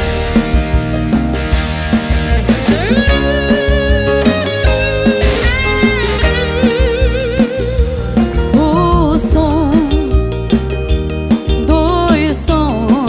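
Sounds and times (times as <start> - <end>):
band music with drums and bass: 0.0 - 13.0
lead electric guitar: 0.0 - 13.0.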